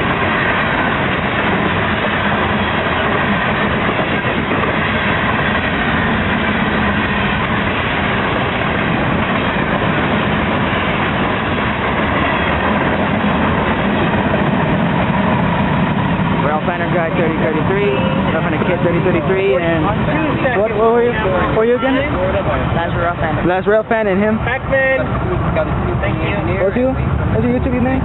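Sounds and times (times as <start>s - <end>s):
freight train wheels on rails: 0.0s - 28.0s.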